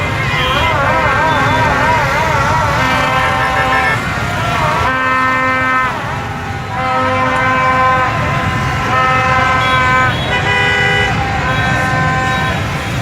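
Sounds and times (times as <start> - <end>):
motorbike and car traffic rumble: 0.0 - 13.0
plastic fan horns blowing: 0.0 - 13.0.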